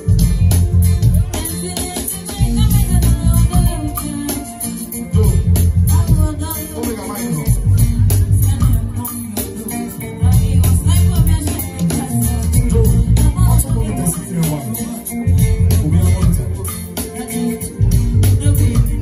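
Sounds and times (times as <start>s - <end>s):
bass guitar: 0.0s - 19.0s
conga drums: 0.0s - 19.0s
drum kit: 0.0s - 19.0s
keyboard: 0.0s - 19.0s
live band playing: 0.0s - 19.0s.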